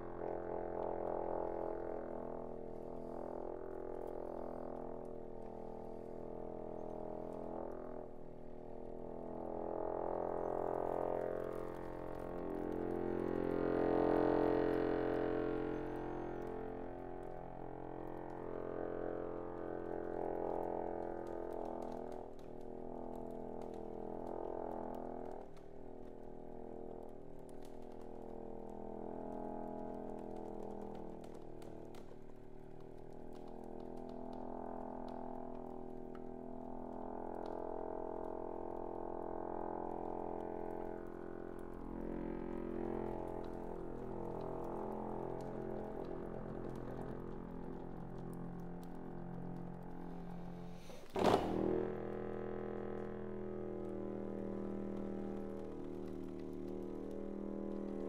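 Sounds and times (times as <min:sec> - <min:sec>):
faint clicks: 0:01.7 - 0:07.8, 0:10.5 - 0:58.0.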